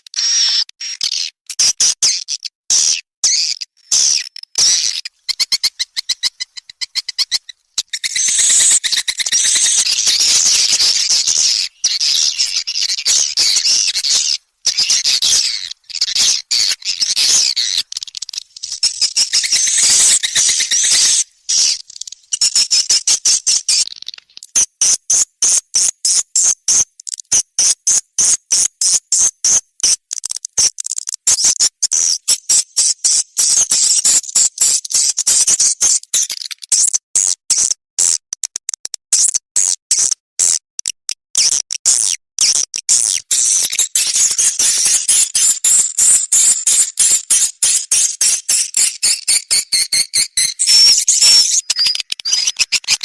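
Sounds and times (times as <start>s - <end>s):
swiftlet twittering and chirping: 0.2s - 37.3s, 41.4s - 53.0s.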